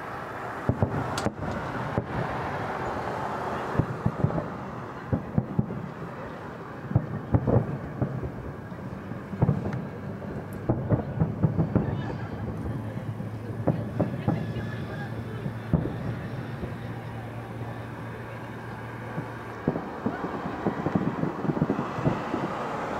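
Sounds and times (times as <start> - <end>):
firework shells bursting: 0.6 - 6.0, 6.9 - 22.9.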